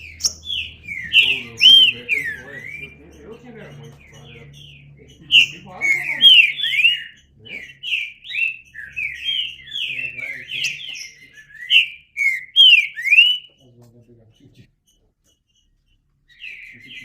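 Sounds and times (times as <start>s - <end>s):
bird singing whistled notes: 0.0s - 13.6s, 16.3s - 17.0s.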